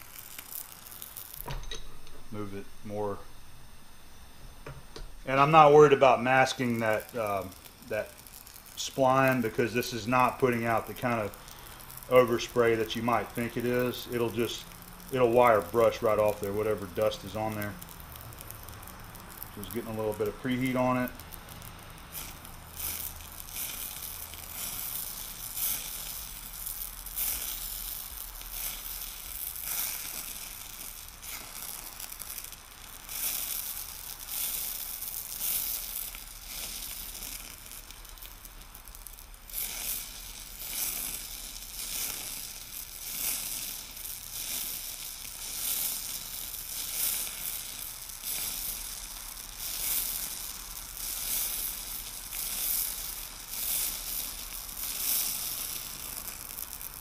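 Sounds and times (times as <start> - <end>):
torch flame hissing: 0.0 - 57.0.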